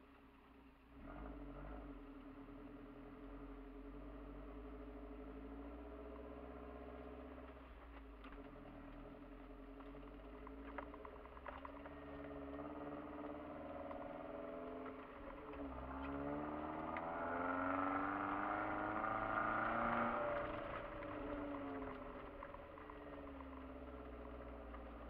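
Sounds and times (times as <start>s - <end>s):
car engine revving: 0.9s - 25.0s.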